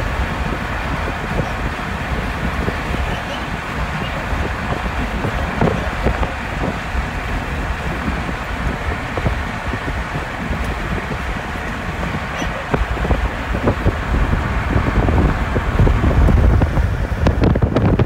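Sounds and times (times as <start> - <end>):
tyre and wind rumble in car: 0.0 - 18.0.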